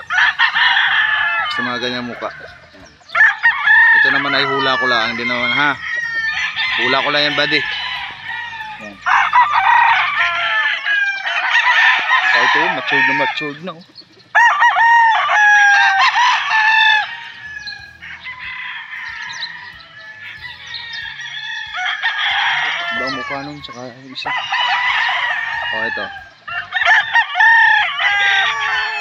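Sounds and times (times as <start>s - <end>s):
roosters crowing: 0.0s - 29.0s.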